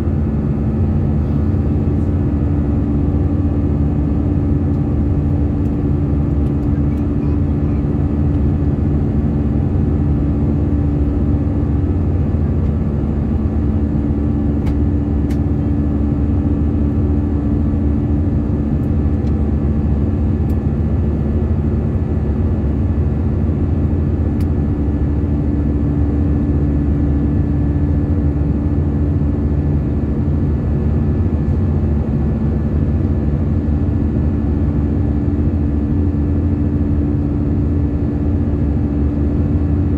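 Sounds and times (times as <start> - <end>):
airliner cabin roar: 0.0 - 39.9
droning hums: 0.0 - 39.9.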